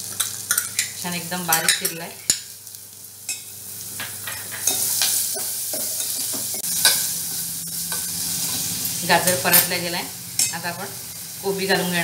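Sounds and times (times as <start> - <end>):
carrot sizzling in hot oil: 0.0 - 12.0.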